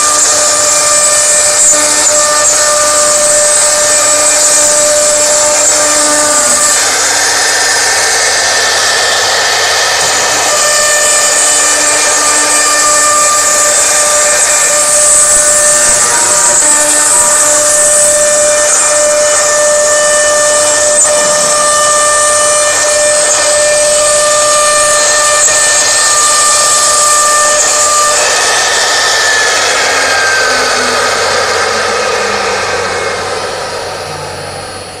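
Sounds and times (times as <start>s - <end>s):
hiss of cutting wood: 0.0s - 35.0s
router spindle whining: 0.0s - 35.0s.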